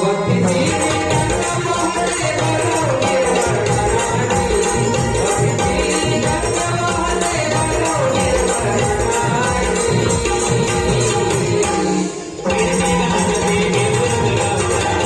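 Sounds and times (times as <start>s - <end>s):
jingling percussion: 0.0s - 15.0s
steady drum beat: 0.3s - 15.0s.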